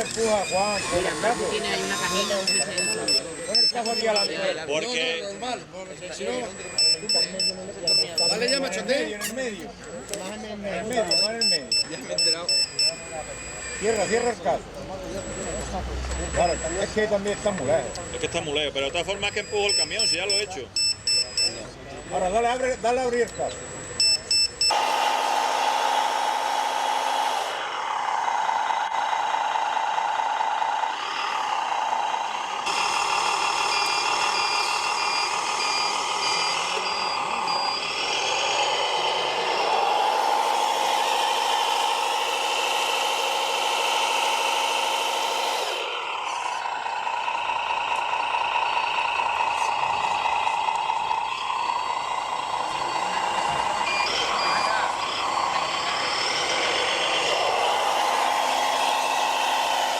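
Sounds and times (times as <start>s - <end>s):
reversing beeper: 0.0s - 25.0s, 30.9s - 59.9s
motor whine: 0.0s - 59.9s.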